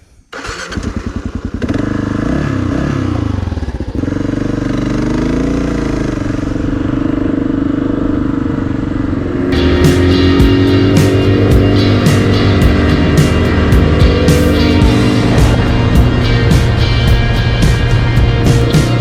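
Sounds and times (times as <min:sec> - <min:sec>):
motorcycle engine revving: 0:00.3 - 0:19.0.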